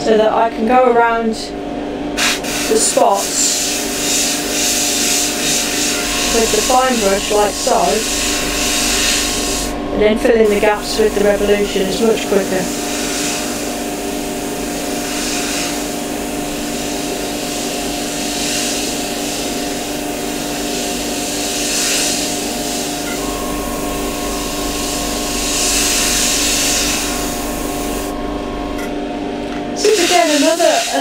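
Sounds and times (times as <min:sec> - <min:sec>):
steady motor hum: 0:00.0 - 0:31.0
airbrush spraying hiss: 0:02.2 - 0:09.8, 0:10.4 - 0:28.1, 0:29.8 - 0:31.0.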